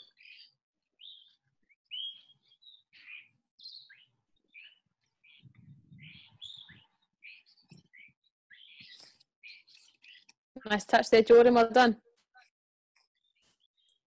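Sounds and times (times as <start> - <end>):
birds chirping: 0.0 - 12.5.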